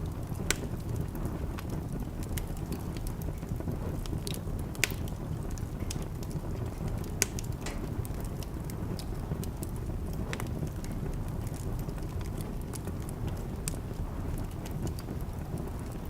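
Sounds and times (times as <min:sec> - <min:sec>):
steady low rumble: 0:00.0 - 0:16.0
wood fire crackling and popping: 0:00.0 - 0:16.0.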